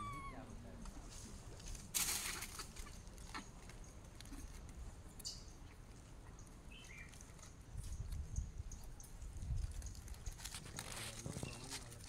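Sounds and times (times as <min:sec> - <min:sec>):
faint rustles and ticks: 0:00.7 - 0:12.0.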